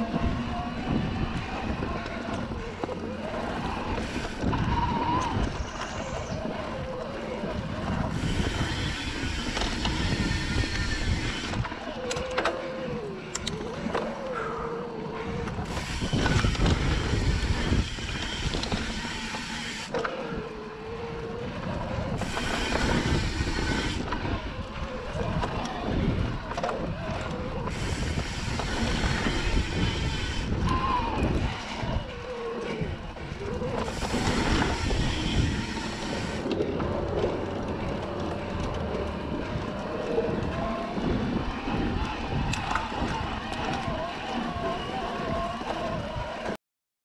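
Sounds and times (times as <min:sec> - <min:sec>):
electric motor whine: 0:00.0 - 0:14.5, 0:15.4 - 0:46.4
tyres rattling over trail: 0:00.0 - 0:46.6.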